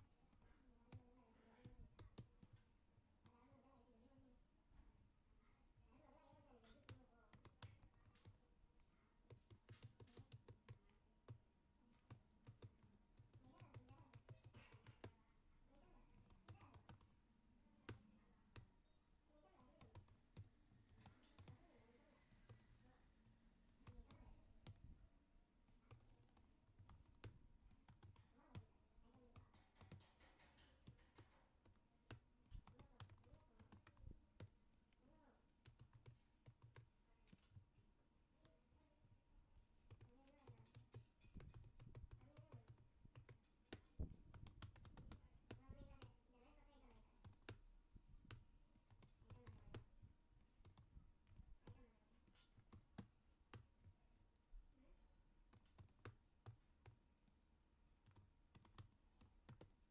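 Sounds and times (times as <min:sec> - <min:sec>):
faint computer keyboard typing: 0:00.0 - 0:59.9.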